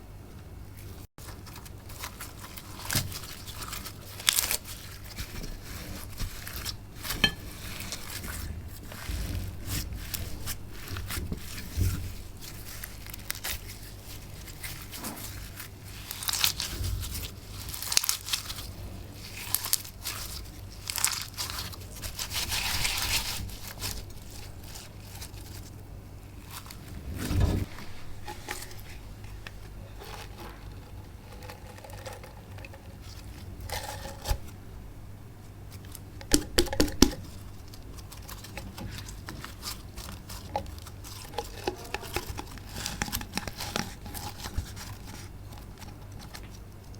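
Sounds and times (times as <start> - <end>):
slime crinkling and tearing: 1.2 - 34.6, 35.6 - 46.9.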